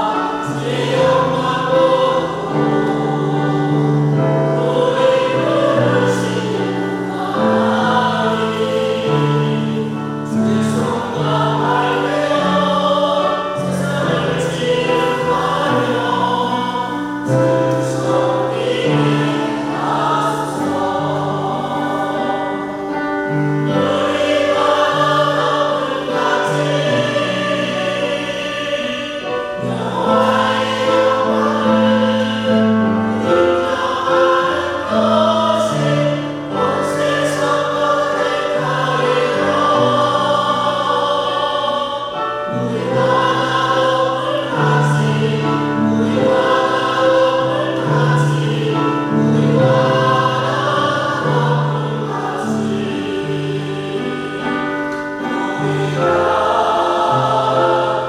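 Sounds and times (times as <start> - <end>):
church choir singing a hymn: 0.0 - 58.0.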